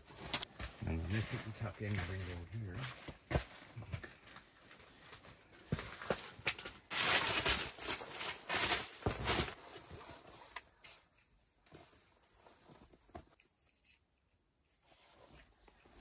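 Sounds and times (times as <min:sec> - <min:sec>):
blanket rustling and crinkling: 0:00.0 - 0:14.0.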